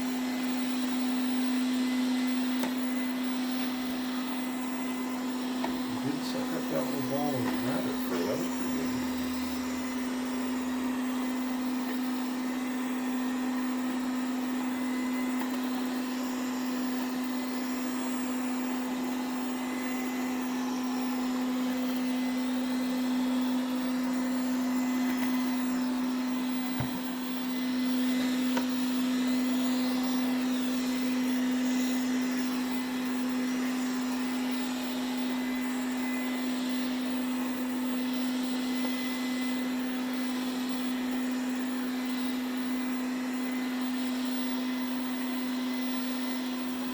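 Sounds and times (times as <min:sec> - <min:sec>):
robot vacuum motor humming: 0:00.0 - 0:46.9.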